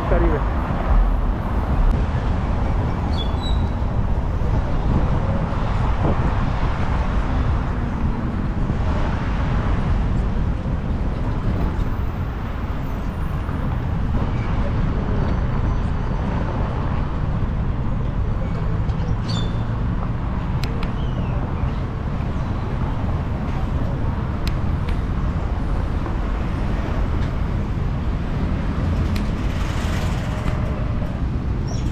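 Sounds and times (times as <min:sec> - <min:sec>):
busy road traffic rumble: 0:00.0 - 0:31.9.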